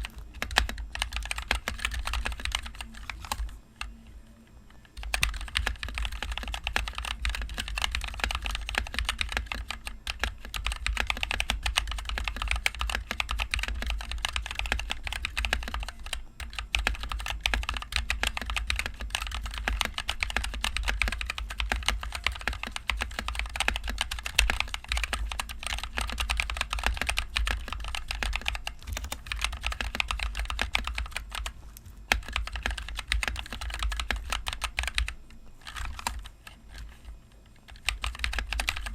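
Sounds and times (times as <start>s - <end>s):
mechanical keyboard typing: 0.0s - 4.0s, 4.8s - 38.9s.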